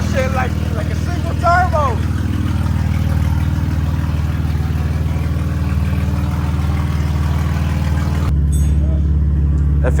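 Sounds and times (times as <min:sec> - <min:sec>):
car engine idling deep note: 0:00.0 - 0:10.0.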